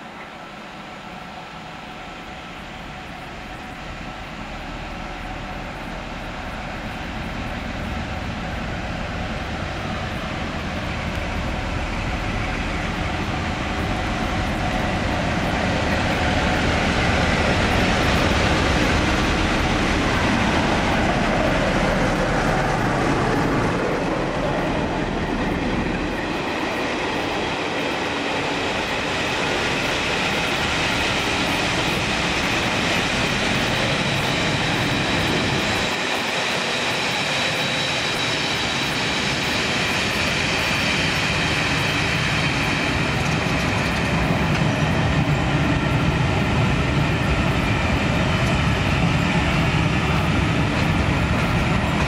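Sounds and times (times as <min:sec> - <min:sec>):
diesel locomotive engine rumble: 0:00.0 - 0:52.0.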